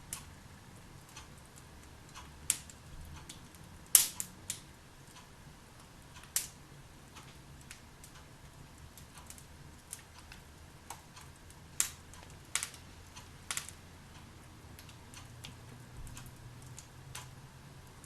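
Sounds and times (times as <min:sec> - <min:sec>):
log fire crackling and popping: 0:00.0 - 0:18.0.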